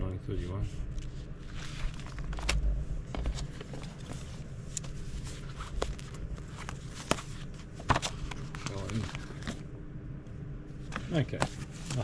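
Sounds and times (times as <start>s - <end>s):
magazine pages rustling: 1.0s - 9.7s, 10.8s - 12.0s.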